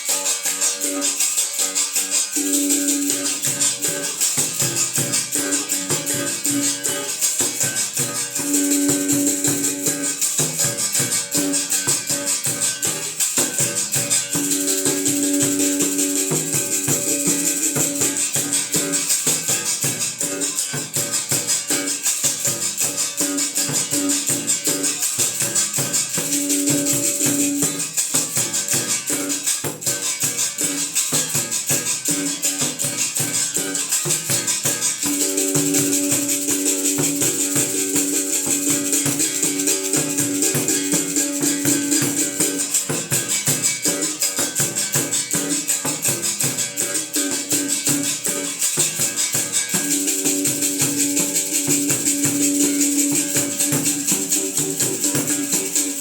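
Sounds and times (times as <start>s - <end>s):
basket rattle shaking: 0.6s - 56.0s.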